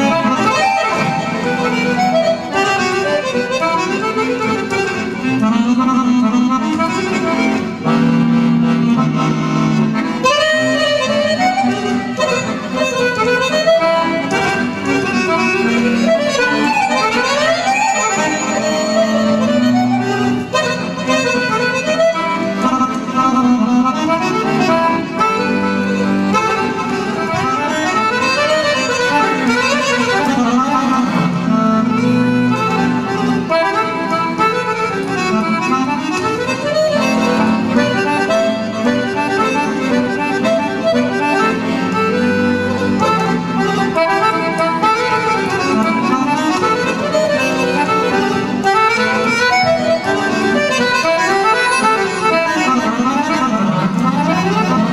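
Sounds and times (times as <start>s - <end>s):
accordion playing melodic runs: 0.0s - 54.9s.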